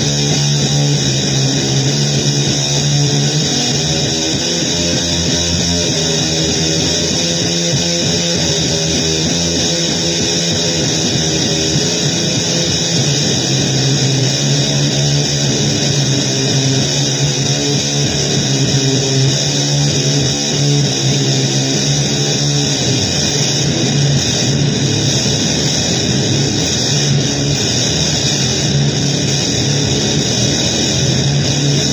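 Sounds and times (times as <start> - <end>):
distorted electric guitar music: 0.0 - 31.9.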